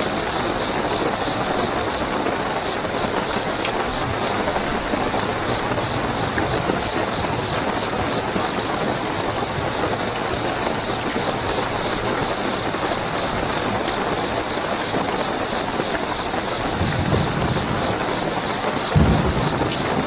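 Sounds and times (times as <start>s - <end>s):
cricket trill: 0.0s - 20.0s
distant thunder rumble: 0.0s - 20.0s
heavy rainfall: 0.0s - 20.0s.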